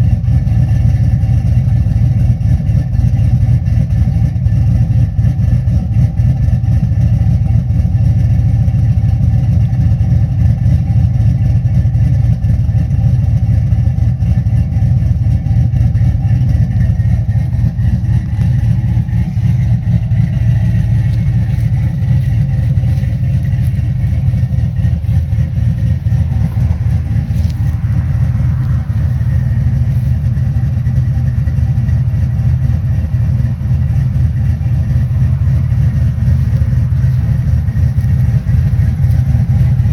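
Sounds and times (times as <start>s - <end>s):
truck engine idling with lope: 0.0s - 39.9s.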